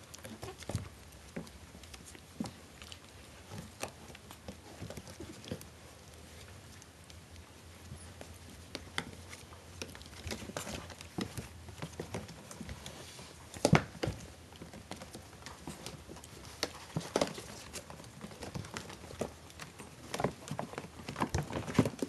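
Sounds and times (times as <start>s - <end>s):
puppy claws pattering and tapping: 0.0s - 22.0s.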